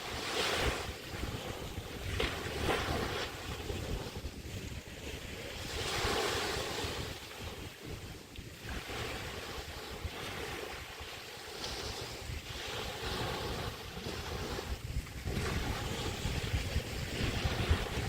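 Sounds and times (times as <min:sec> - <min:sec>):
small waves washing onto beach: 0:00.0 - 0:18.0
wind buffeting microphone: 0:00.0 - 0:18.0.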